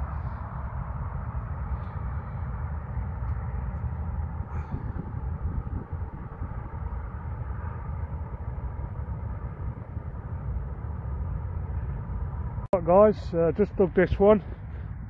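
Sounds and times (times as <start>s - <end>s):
outdoor low rumble: 0.0s - 15.0s.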